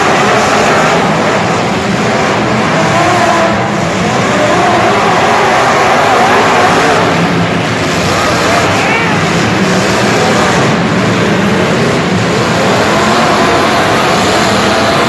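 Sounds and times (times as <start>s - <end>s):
engines running and revving: 0.0s - 15.0s
voices: 0.0s - 15.0s.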